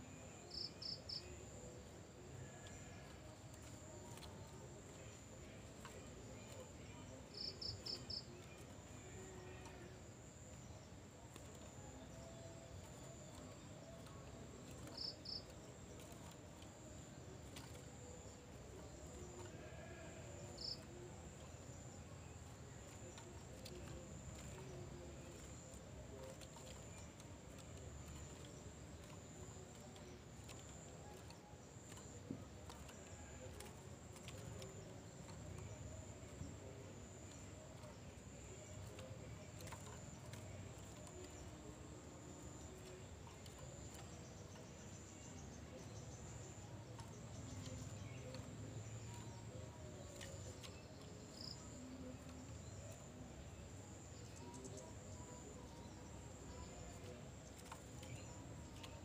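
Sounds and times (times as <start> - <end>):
faint high-pitched hum: 0.0 - 59.0.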